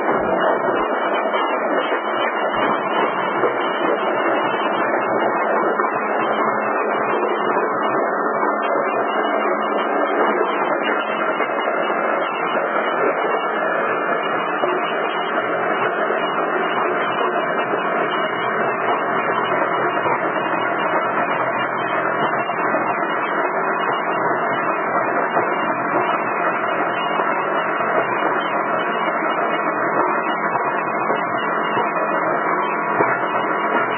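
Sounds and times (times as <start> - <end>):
crushing machine running: 0.0 - 33.9.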